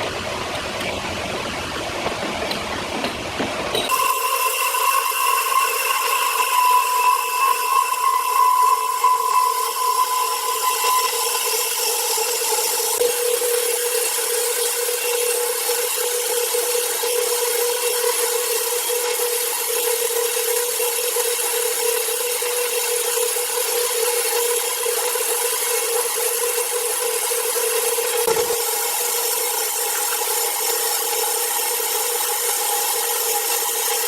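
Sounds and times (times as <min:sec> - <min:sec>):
power saw cutting wood: 0:03.8 - 0:34.0.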